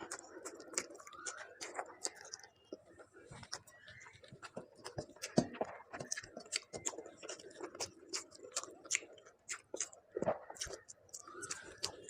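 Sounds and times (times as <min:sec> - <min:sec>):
chewing with wet mouth clicks: 0:00.0 - 0:12.0.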